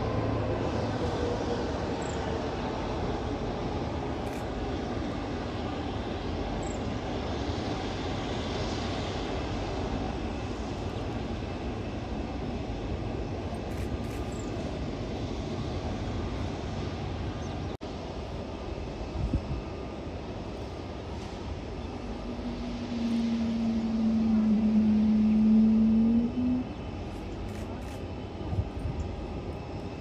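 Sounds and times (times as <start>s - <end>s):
jet engines rumbling at taxi power: 0.0s - 30.0s.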